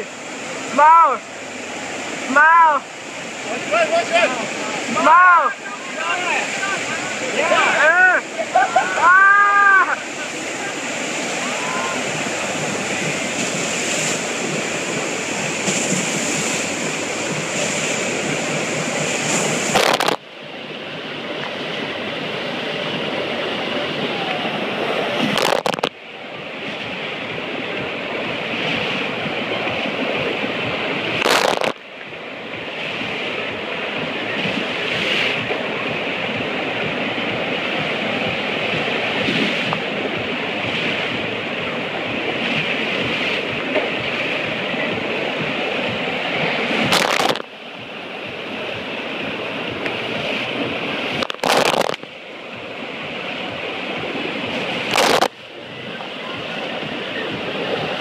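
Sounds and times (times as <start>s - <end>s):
rush of pumped water: 0.0s - 58.0s.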